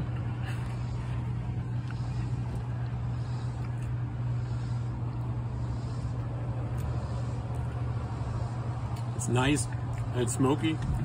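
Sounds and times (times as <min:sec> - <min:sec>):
faint outdoor background noise: 0:00.0 - 0:11.0
low mechanical hum: 0:00.0 - 0:11.0.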